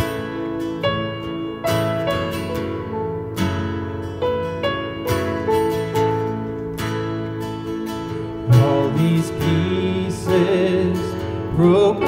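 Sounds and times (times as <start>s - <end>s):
keyboard chords: 0.0s - 12.0s
strummed acoustic guitar: 0.0s - 12.0s.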